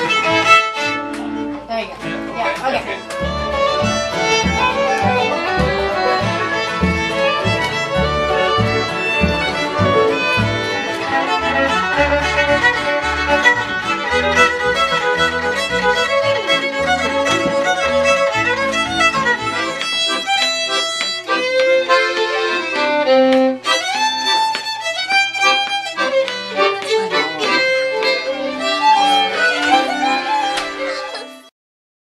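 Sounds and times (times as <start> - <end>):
upright bass: 0.0 - 30.9
accordion accompaniment: 0.0 - 31.5
fiddle tune: 0.0 - 31.5.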